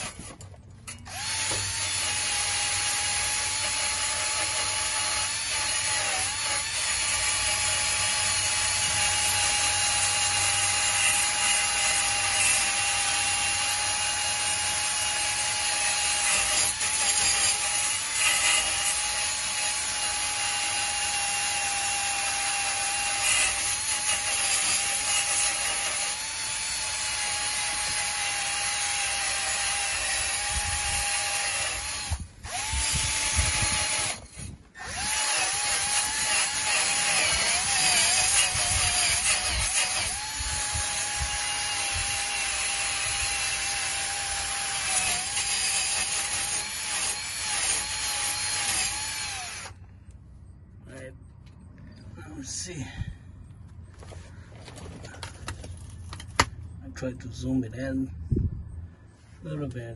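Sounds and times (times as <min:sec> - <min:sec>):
drill motor whine: 0:00.9 - 0:49.8.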